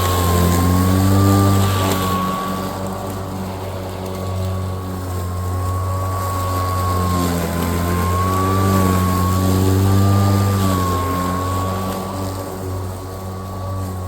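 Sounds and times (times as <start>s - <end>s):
electric lawnmower running: 0.0s - 14.0s.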